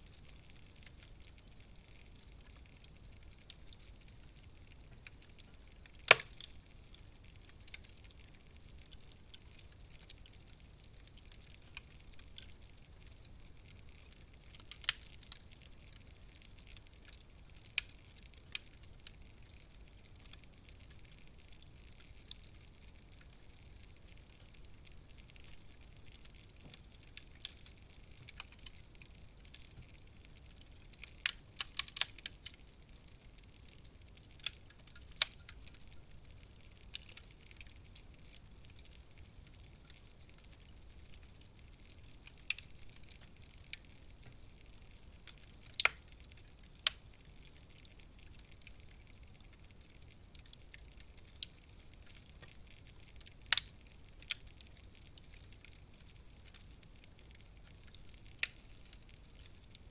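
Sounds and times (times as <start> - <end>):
fire popping and snapping: 0.0 - 59.9
wood fire crackling: 0.0 - 59.9.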